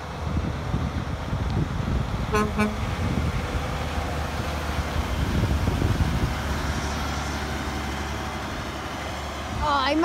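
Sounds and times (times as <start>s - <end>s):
truck diesel engine rumbling: 0.0s - 10.0s
tyre and road noise: 0.0s - 10.0s.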